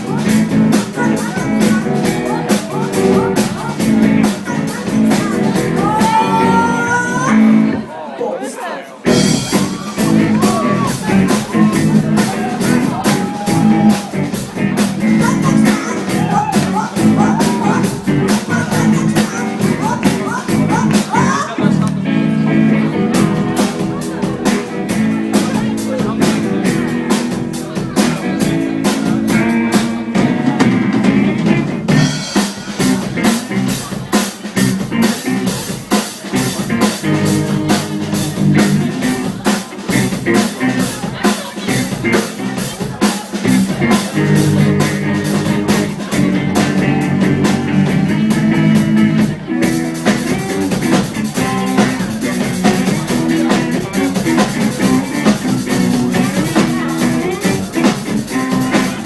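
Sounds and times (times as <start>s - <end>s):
fast drum beat: 0.0s - 7.4s, 9.1s - 21.8s, 23.0s - 59.0s
rock band playing live: 0.0s - 7.9s, 9.0s - 59.0s.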